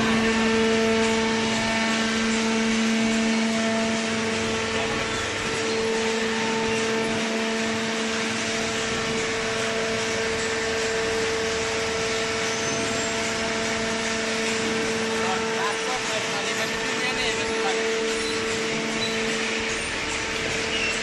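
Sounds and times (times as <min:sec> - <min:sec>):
baler motor and hydraulic pump hum: 0:00.0 - 0:21.0.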